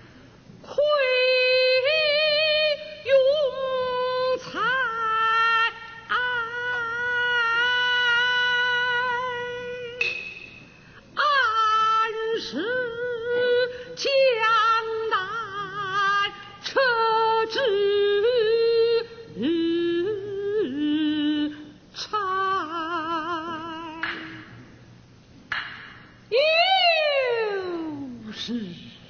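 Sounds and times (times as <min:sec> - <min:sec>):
high voice opera singing: 0:00.7 - 0:10.1, 0:11.2 - 0:24.5, 0:26.3 - 0:29.0.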